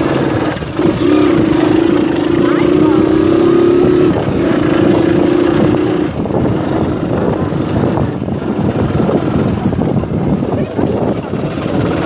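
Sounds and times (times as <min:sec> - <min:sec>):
rough noisy rumble: 0:00.0 - 0:12.0
small motorcycle engine running: 0:00.0 - 0:12.0.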